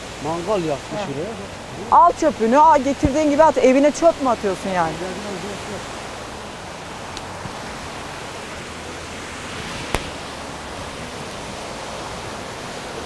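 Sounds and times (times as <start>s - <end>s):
stream and waterfall rushing: 0.0s - 13.0s.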